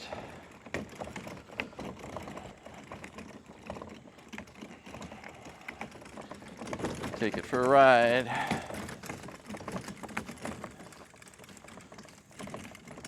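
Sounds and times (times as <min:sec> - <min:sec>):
kayak wheels clicking and rattling: 0:00.0 - 0:13.0.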